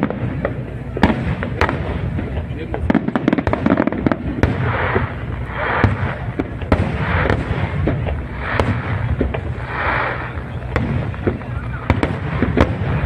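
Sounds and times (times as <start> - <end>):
continuous low rumble: 0.0 - 13.0
hissing crackle of fireworks: 0.0 - 13.0.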